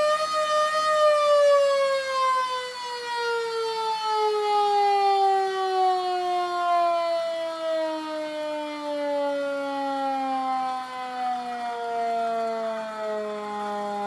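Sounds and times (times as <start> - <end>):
fire truck siren winding down: 0.0 - 14.0.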